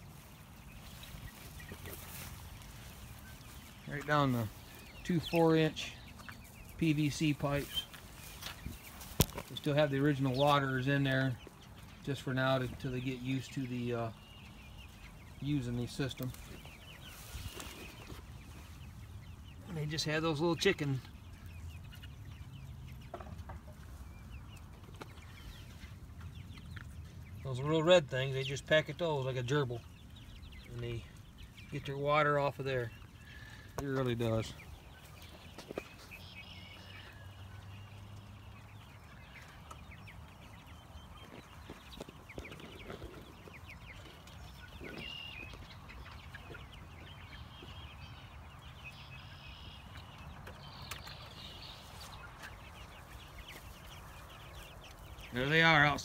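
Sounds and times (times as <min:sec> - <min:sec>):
chickens peeping and clucking: 0:00.0 - 0:56.0.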